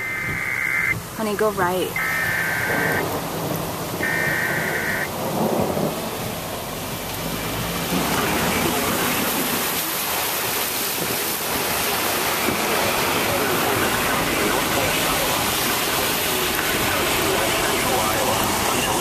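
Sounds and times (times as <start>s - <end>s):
heavy rain pounding on a car: 0.0s - 19.0s
water rushing and splashing: 0.0s - 19.0s.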